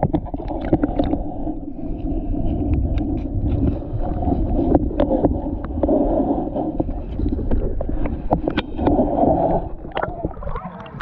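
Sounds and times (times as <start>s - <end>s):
underwater rumble of moving water: 0.0s - 11.0s.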